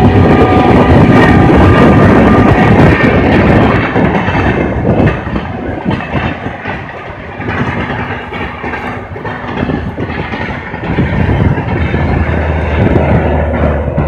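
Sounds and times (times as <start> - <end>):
train coaches running over rails: 0.0 - 14.0.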